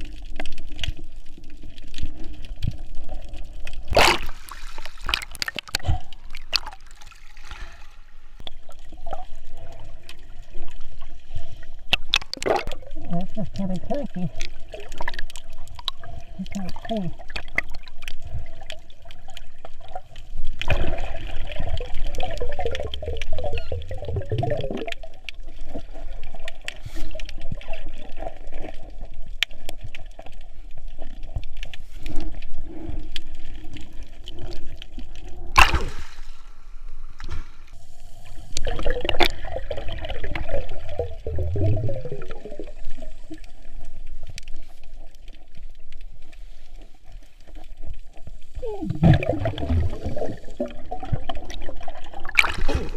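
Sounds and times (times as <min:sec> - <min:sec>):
water splashing and bubbling: 0:00.0 - 0:52.9.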